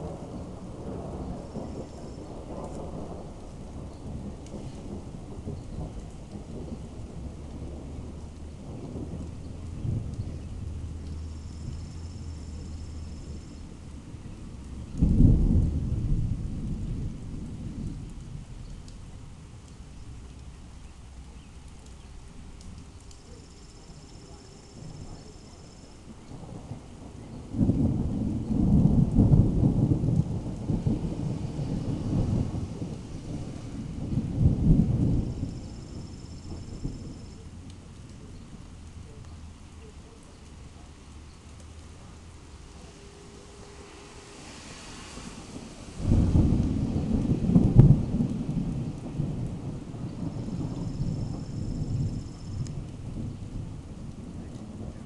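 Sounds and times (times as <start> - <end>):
thunder rumbling: 0.0 - 55.0.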